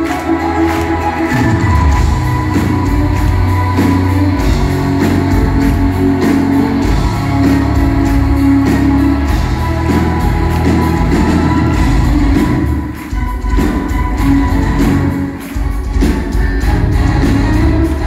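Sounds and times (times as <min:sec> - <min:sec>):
rock band playing live: 0:00.0 - 0:18.0
steady drum beat: 0:00.0 - 0:18.0.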